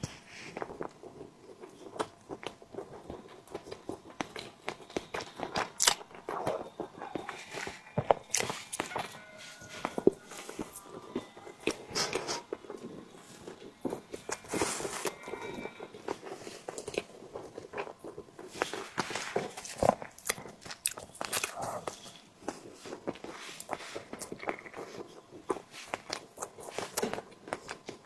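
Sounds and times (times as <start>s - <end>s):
biting and chewing: 0.0s - 28.0s.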